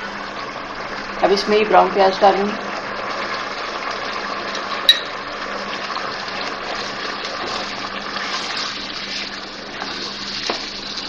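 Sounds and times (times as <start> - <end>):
meat and onion sizzling in oil: 0.0 - 11.0.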